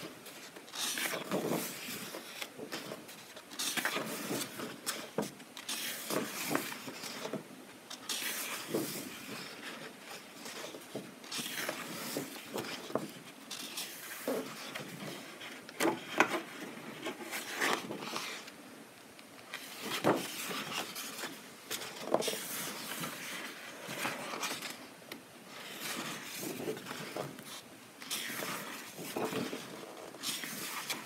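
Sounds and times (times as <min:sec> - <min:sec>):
paper pages turning: 0:00.0 - 0:18.6, 0:19.4 - 0:24.9, 0:25.5 - 0:31.0.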